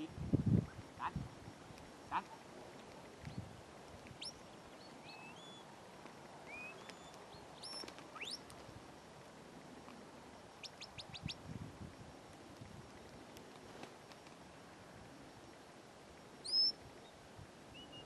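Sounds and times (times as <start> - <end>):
small birds chirping faintly: 0.0 - 18.0.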